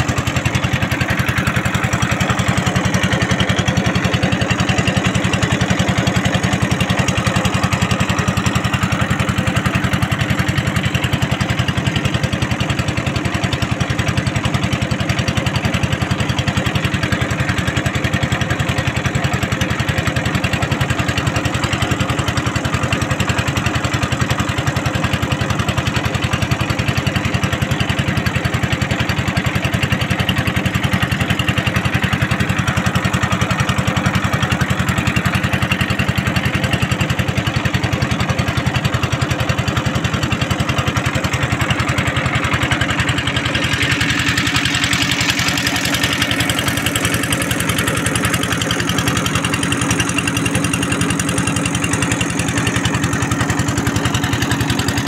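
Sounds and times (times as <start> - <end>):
boat engine chugging: 0.0 - 55.0.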